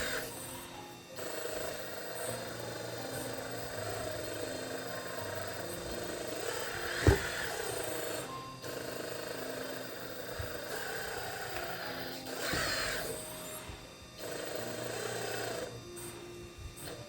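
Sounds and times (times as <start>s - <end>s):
hydraulic pump whine: 0.0s - 17.0s.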